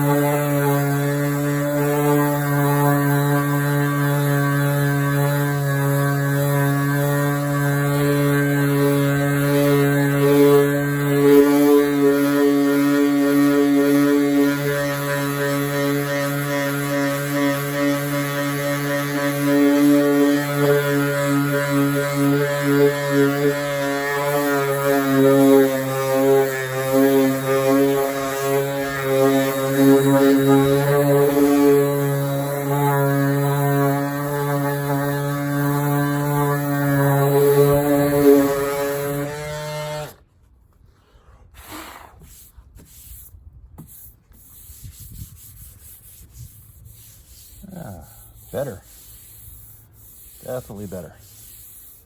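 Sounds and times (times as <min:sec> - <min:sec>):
power sander running: 0:00.0 - 0:40.3, 0:44.3 - 0:52.0.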